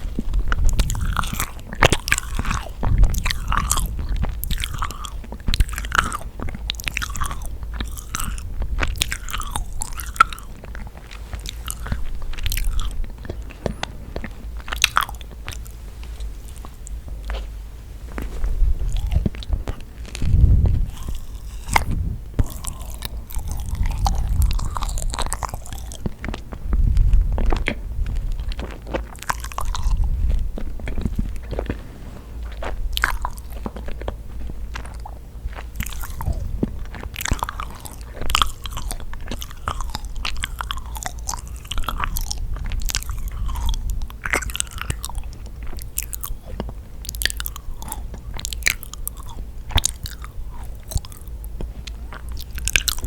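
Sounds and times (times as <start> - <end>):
chewing cookies: 0.0 - 53.0
light crunching: 0.0 - 53.0.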